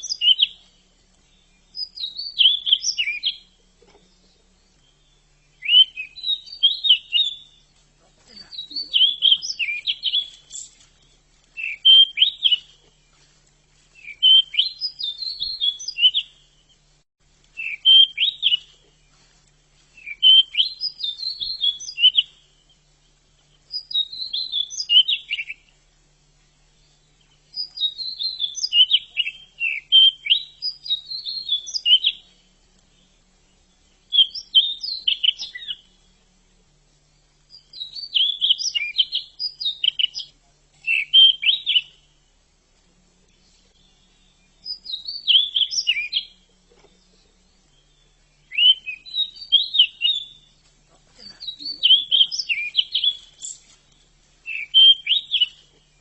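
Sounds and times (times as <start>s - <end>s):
bird twittering song: 0.0s - 56.0s.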